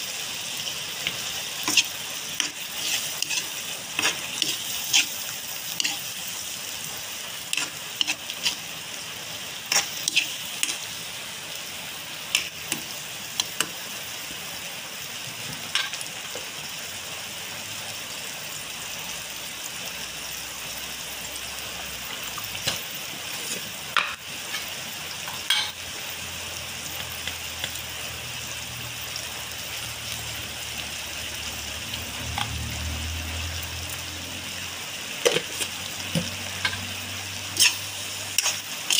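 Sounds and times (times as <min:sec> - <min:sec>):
sauce sizzling in a wok: 0:00.0 - 0:38.9.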